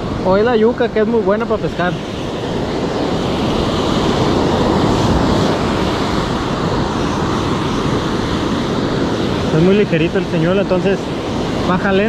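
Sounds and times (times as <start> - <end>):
ocean surf breaking: 0.0 - 12.0
wind on microphone: 0.0 - 12.0.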